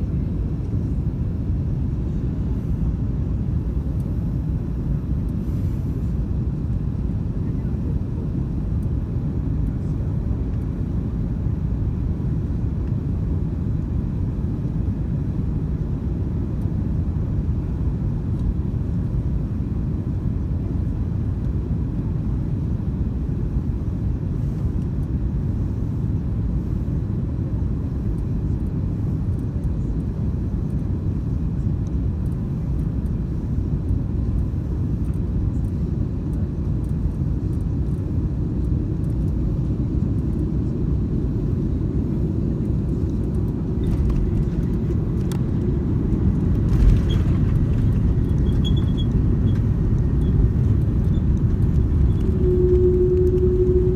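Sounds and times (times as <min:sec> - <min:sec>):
jet engine cabin rumble: 0:00.0 - 0:53.9.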